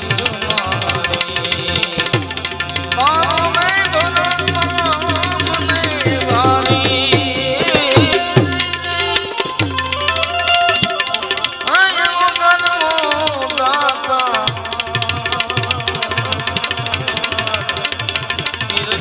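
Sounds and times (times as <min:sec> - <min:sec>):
hand drum: 0:00.0 - 0:19.0
harmonium: 0:00.0 - 0:19.0
man singing: 0:00.0 - 0:19.0
sharp percussion strokes: 0:00.0 - 0:19.0.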